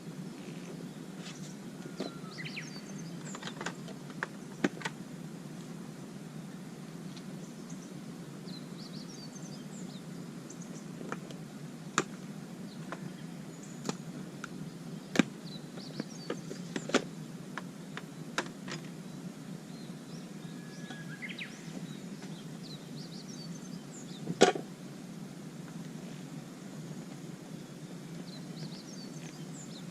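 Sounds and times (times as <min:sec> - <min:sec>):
birds chirping: 0:00.0 - 0:05.0, 0:06.3 - 0:11.2, 0:12.1 - 0:24.4, 0:26.2 - 0:29.9.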